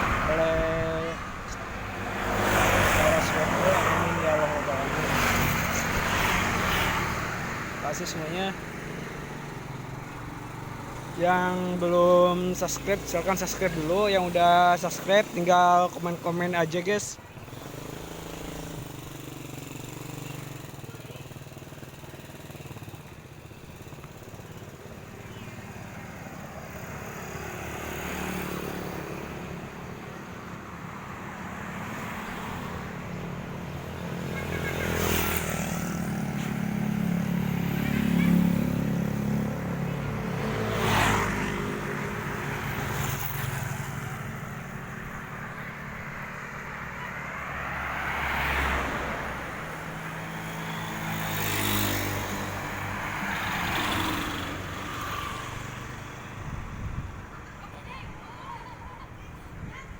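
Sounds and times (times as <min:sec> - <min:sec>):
motorcycles and cars passing: 0:00.0 - 0:59.9
steady traffic rumble: 0:00.0 - 0:59.9.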